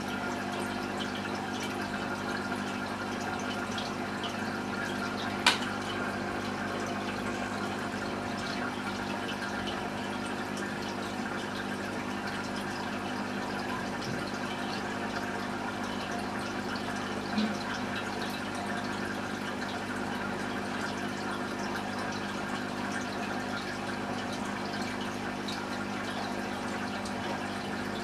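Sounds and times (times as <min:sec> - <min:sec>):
aquarium pump bubbling water: 0:00.0 - 0:28.0
low pump hum: 0:00.0 - 0:28.0.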